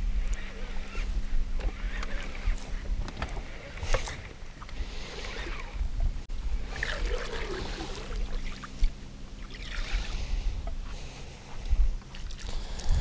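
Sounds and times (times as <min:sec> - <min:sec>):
steady low hum: 0:00.0 - 0:13.0
water lapping against boat hull: 0:00.2 - 0:13.0.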